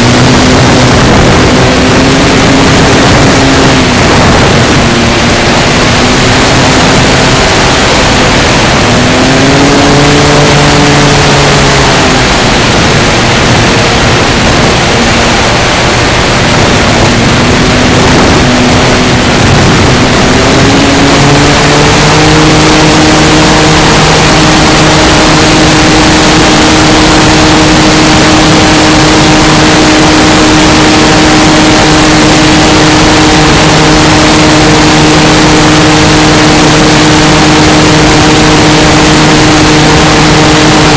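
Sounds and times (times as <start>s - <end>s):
electric motor and propeller: 0.0s - 40.9s
wind rush: 0.0s - 40.9s.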